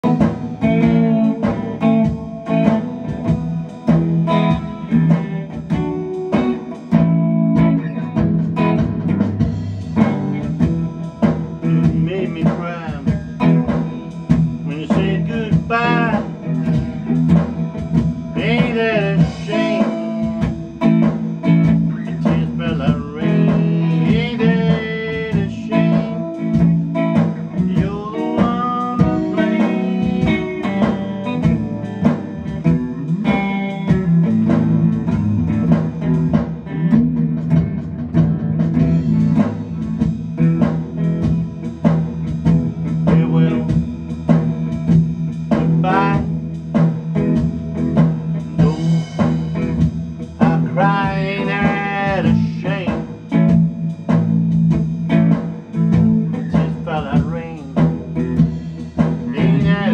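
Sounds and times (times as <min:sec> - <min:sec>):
bass line: 0:00.0 - 0:59.9
drums: 0:00.0 - 0:59.9
electric guitar blues lead: 0:00.0 - 0:59.9.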